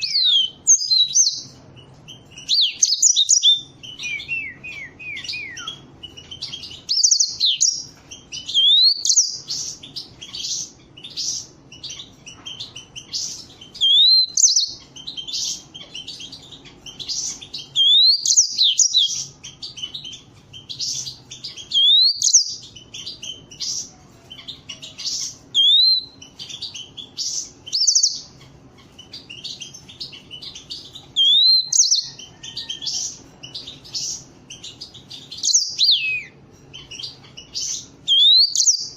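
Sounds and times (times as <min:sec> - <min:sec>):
canary trills and chirps: 0:00.0 - 0:38.9.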